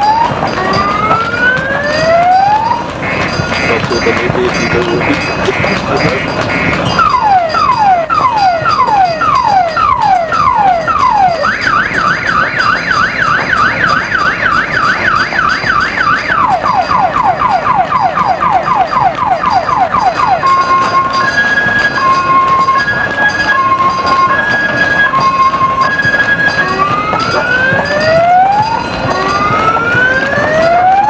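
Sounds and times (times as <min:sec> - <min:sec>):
car alarm siren: 0:00.0 - 0:31.0.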